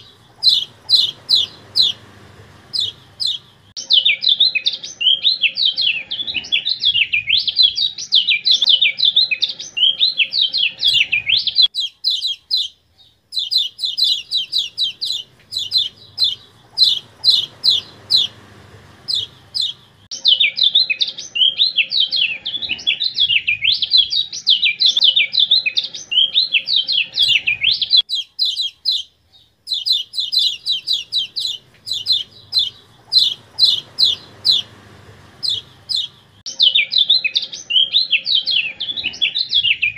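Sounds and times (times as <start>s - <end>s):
songbird singing high-pitched song: 0.0s - 39.9s.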